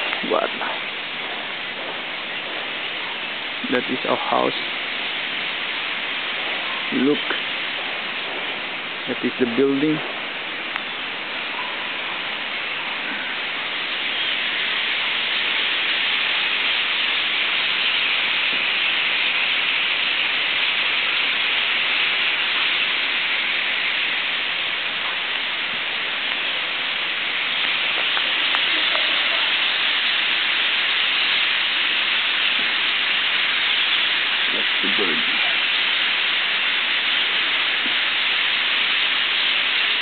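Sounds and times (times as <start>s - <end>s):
starling flock chattering: 0.0s - 40.0s.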